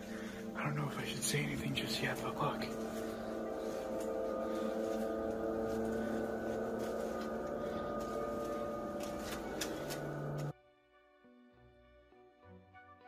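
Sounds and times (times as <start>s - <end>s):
droning hum: 0.0s - 10.5s.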